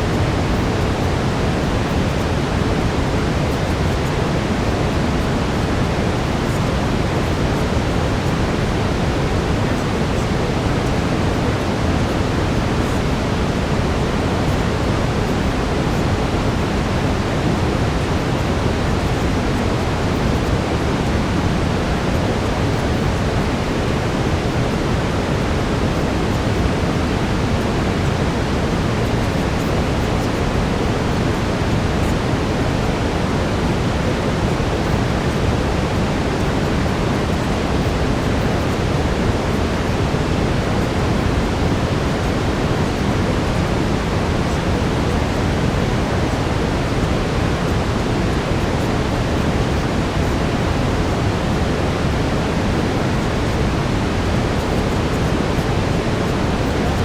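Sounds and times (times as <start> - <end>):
brown noise hiss: 0.0 - 57.0.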